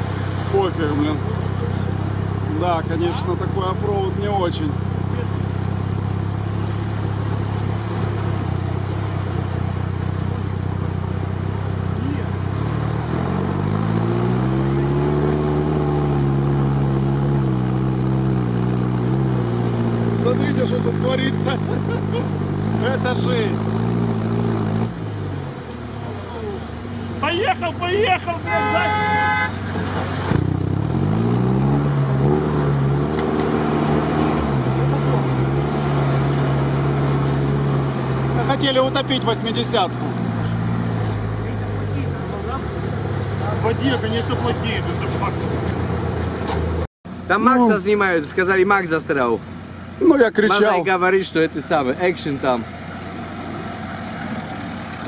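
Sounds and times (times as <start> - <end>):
truck driving through water: 0.0 - 55.0
truck engine revving: 0.0 - 55.0.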